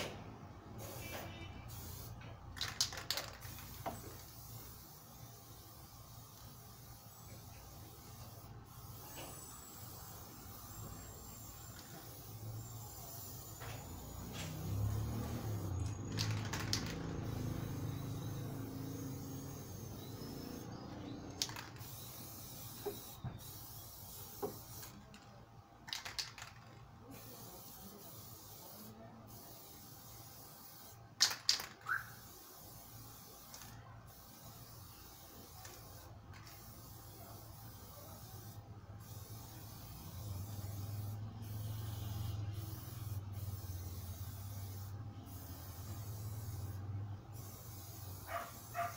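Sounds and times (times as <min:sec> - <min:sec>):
spray paint can hissing: 0:00.0 - 0:48.9.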